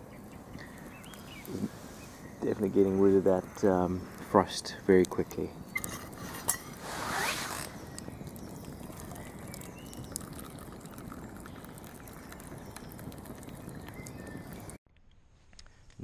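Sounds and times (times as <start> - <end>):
campfire crackling and hissing: 0.0 - 16.0.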